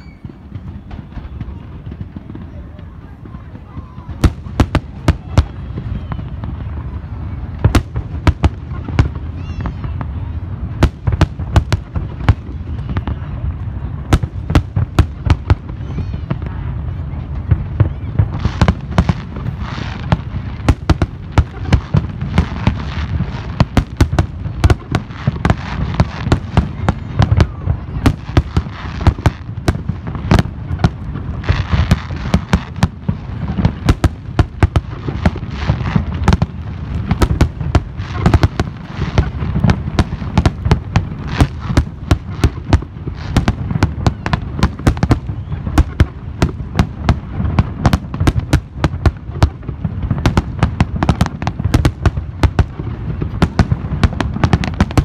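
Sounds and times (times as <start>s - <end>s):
fireworks bursting: 0.0s - 55.0s
low rumble and crackle: 0.0s - 55.0s.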